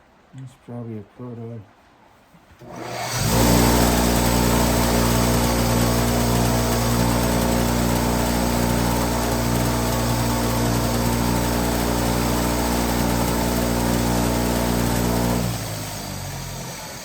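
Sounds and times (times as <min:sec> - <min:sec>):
machine motor running: 0:02.6 - 0:17.0.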